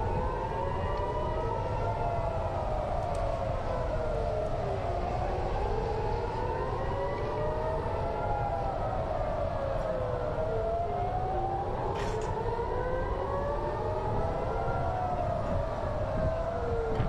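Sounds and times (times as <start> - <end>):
air-raid sirens wailing: 0.0 - 17.0.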